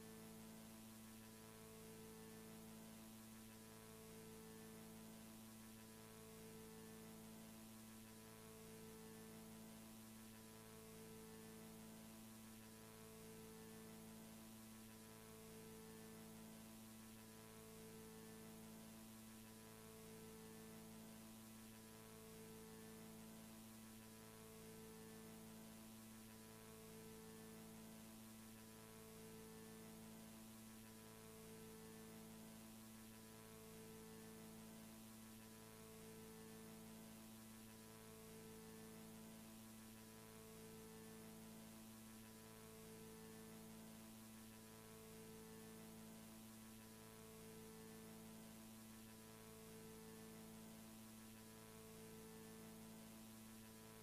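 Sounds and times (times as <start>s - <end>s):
faint electrical hum with hiss: 0.0s - 54.0s.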